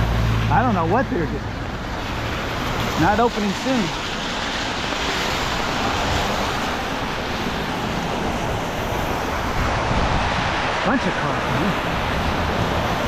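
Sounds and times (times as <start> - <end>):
car tyres on wet road: 0.0 - 13.0
rain hiss: 0.0 - 13.0.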